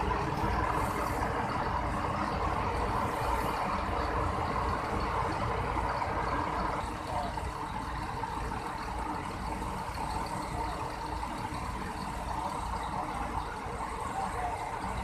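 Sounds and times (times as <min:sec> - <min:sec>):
diesel bus engine idling: 0:00.0 - 0:15.0.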